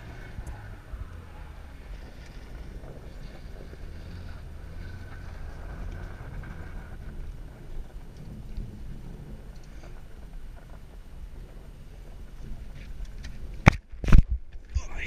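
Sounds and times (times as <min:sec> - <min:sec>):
car engine and tyre rumble: 0:00.0 - 0:15.0
wind noise from window: 0:00.0 - 0:15.0.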